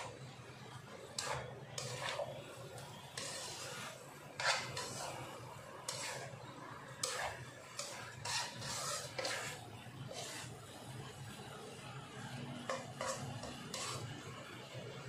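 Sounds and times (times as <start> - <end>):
spatula scraping wok: 0.0 - 14.9.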